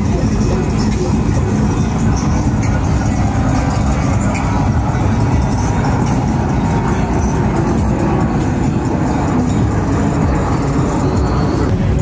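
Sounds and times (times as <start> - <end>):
pickup engine rumble: 0.0 - 12.0
traffic noise: 0.0 - 12.0.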